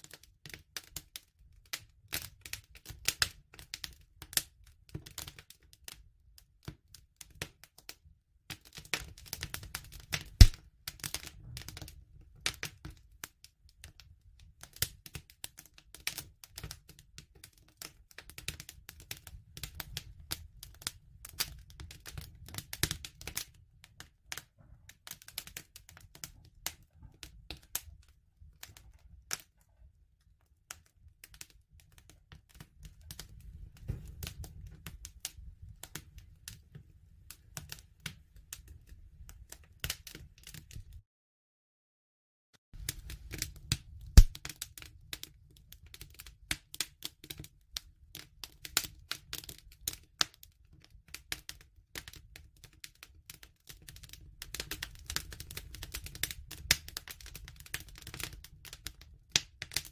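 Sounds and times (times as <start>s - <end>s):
wood fire crackling: 0.0s - 41.0s, 42.8s - 59.9s
low rumble of burning: 0.1s - 41.0s, 42.8s - 59.9s.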